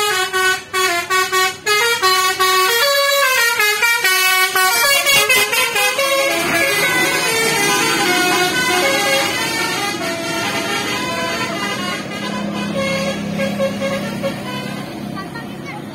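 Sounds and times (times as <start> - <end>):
melodic bus horn: 0.0 - 15.5
bus passing close by: 0.0 - 15.9.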